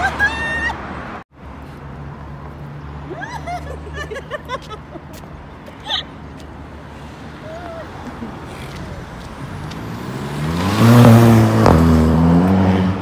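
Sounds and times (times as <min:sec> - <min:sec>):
hum of passing cars: 0:00.0 - 0:13.0.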